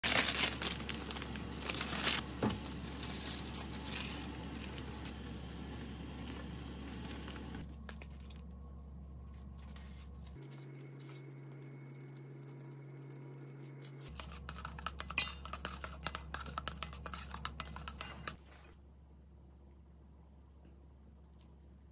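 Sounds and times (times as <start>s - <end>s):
faint steady hum: 0.1s - 21.9s.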